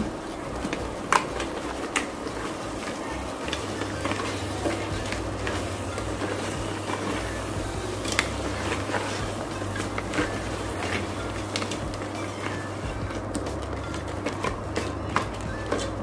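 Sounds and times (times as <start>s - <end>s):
ladle knocking and scraping pot: 0.0s - 16.0s
low steady hum: 0.0s - 16.0s
simmering sizzle: 0.0s - 16.0s.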